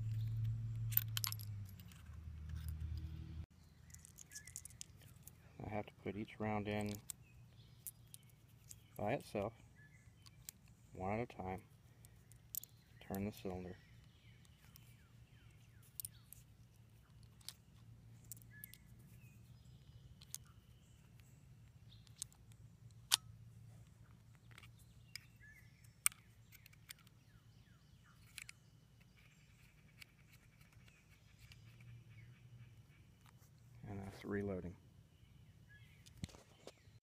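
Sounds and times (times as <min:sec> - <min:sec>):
faint bird chirps: 0:03.6 - 0:22.7, 0:23.9 - 0:37.0.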